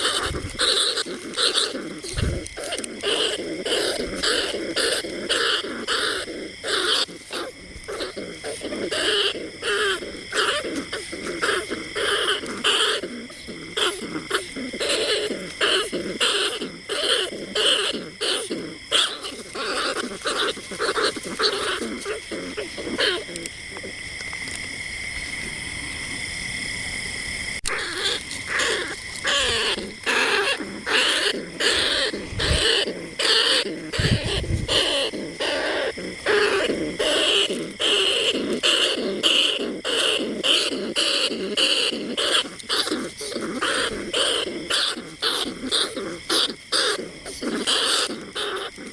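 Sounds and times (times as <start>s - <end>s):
rat squeaking calls: 0.0s - 23.5s, 27.6s - 48.9s
steady high tone and hiss: 0.0s - 48.9s.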